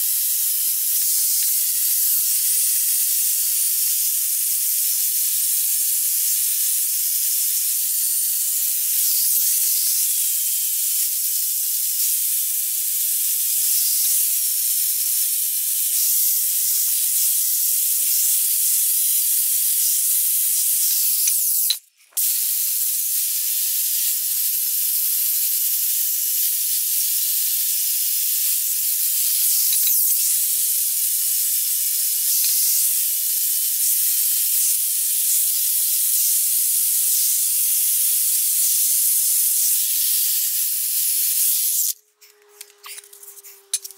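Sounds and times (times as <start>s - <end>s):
steady high hiss: 0.0s - 42.0s.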